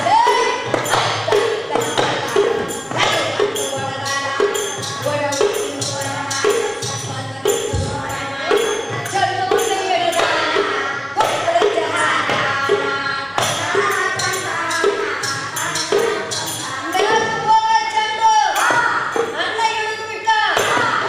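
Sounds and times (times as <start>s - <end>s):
hand drums beating: 0.0s - 19.7s, 20.5s - 21.0s
women singing: 0.0s - 21.0s.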